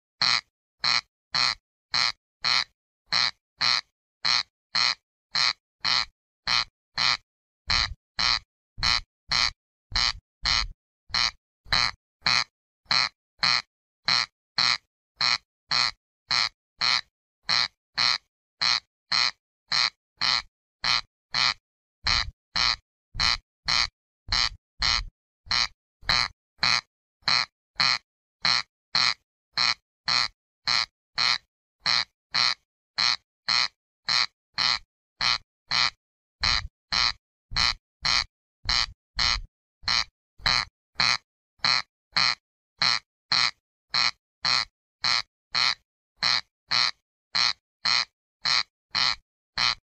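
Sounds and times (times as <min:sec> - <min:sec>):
corncrake rasping call: 0:00.2 - 0:49.8.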